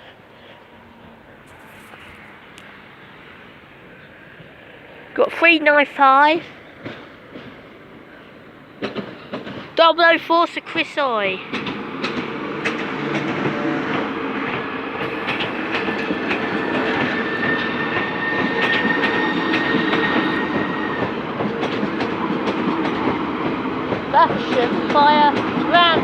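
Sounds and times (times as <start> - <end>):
train wheels rumbling: 0.0 - 26.0
wheels clicking over rail joints: 5.2 - 26.0.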